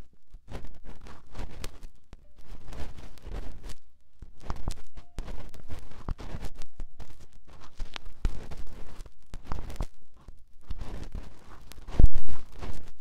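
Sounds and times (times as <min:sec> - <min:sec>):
scratching and rubbing on microphone: 0:00.0 - 0:13.0.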